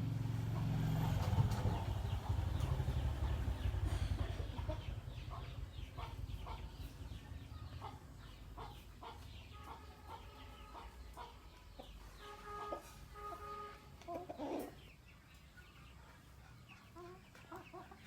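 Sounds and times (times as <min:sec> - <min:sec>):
chickens clucking: 0:00.3 - 0:18.0.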